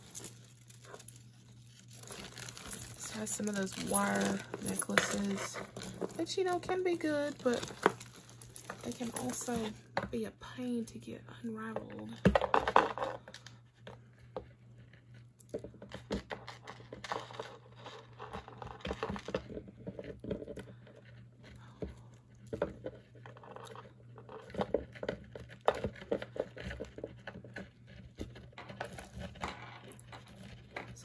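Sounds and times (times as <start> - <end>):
jewelry rustling and clicking: 0.0 - 10.2, 11.8 - 31.0
faint steady hum: 0.0 - 31.0.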